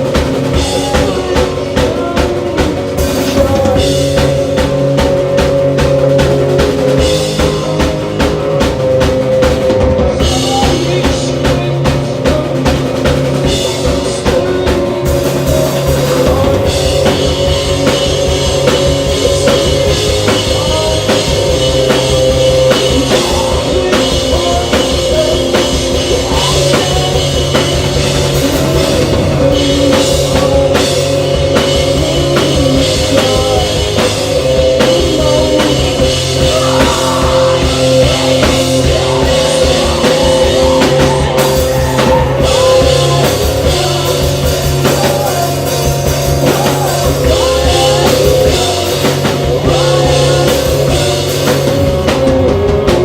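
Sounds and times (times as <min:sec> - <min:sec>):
person singing: 0:00.0 - 0:53.0
rock band playing live: 0:00.0 - 0:53.0.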